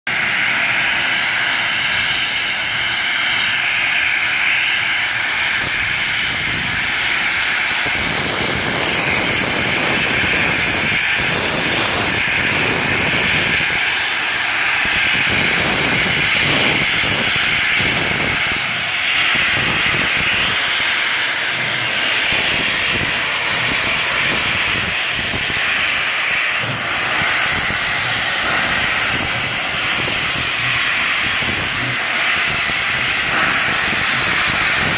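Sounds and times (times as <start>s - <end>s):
steam hissing: 0.1s - 34.9s.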